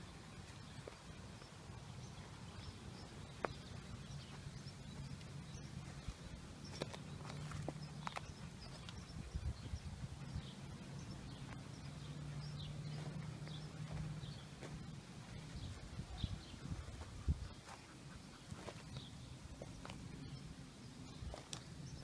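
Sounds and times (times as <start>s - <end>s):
birds chirping: 0.0s - 22.0s
footsteps on dry dirt: 0.3s - 20.4s, 21.1s - 21.7s.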